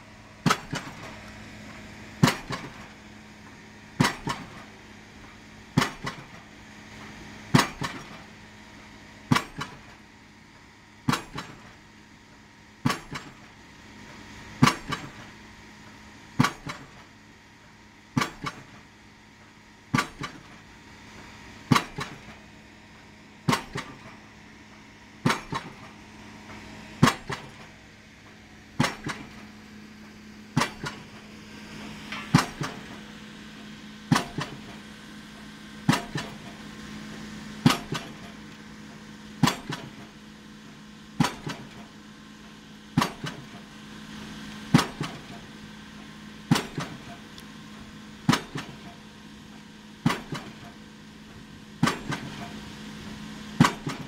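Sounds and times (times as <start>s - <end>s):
piling rig engine hum: 0.0s - 54.0s
hydraulic hammer striking pile: 0.4s - 8.4s, 9.2s - 10.0s, 11.0s - 11.8s, 12.8s - 13.6s, 14.6s - 15.4s, 16.4s - 17.1s, 18.1s - 20.7s, 21.7s - 36.6s, 37.2s - 43.7s, 44.7s - 52.7s, 53.6s - 54.0s.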